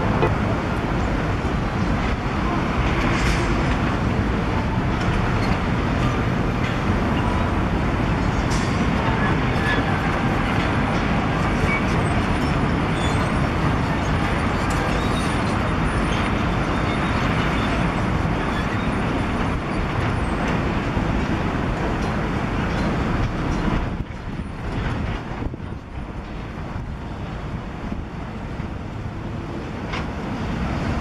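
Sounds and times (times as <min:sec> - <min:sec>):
concrete mixer truck: 0:00.0 - 0:31.0
excavator working: 0:00.0 - 0:31.0.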